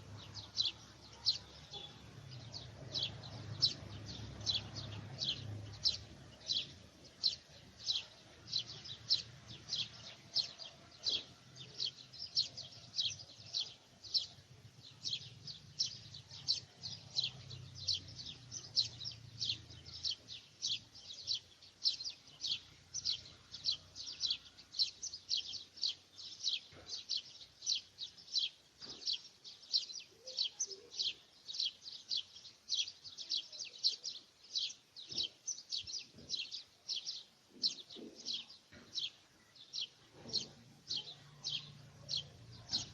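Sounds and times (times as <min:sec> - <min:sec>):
bird chirping: 0:00.0 - 0:42.9.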